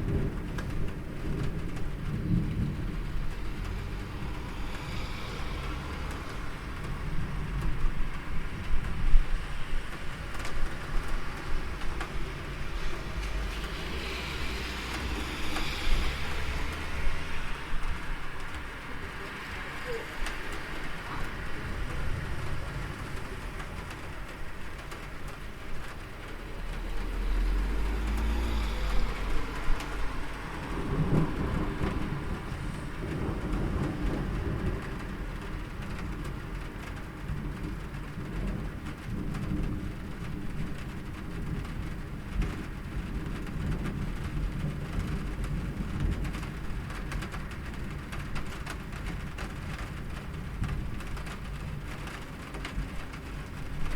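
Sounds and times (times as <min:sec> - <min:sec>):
steady rain falling: 0:00.0 - 0:53.9
thunder rumbling: 0:00.0 - 0:53.9.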